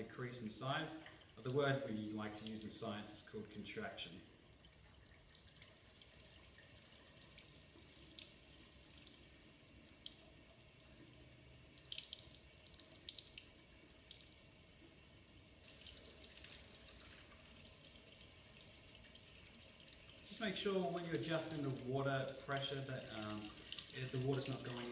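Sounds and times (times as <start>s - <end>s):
tap water running into sink: 4.5s - 24.9s.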